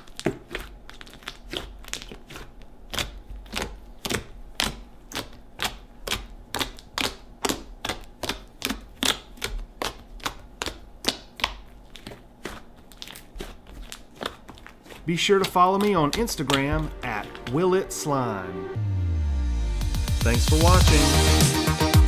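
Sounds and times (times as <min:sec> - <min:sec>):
hand squishing slime: 0:00.0 - 0:18.4.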